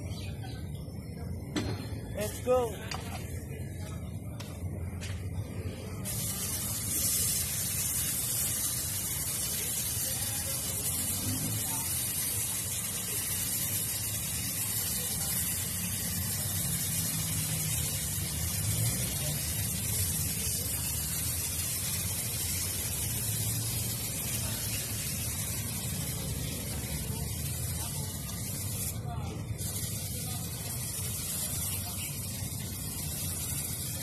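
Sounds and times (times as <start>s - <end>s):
paint spray gun hissing: 6.0s - 34.0s.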